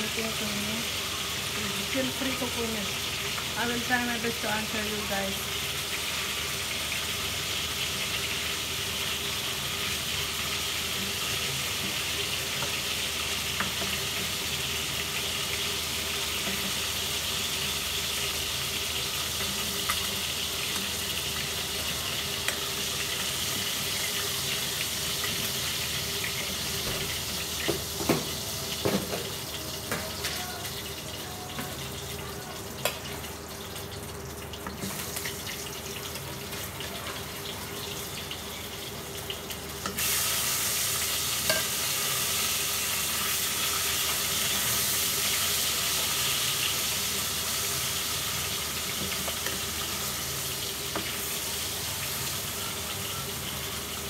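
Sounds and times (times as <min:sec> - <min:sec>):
fish sizzling in oil: 0:00.0 - 0:54.0.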